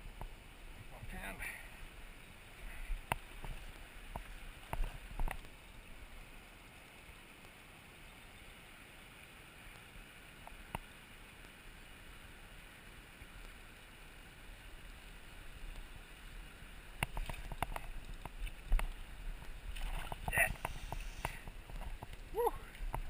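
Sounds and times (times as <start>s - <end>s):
shallow river rushing: 0.0s - 23.0s.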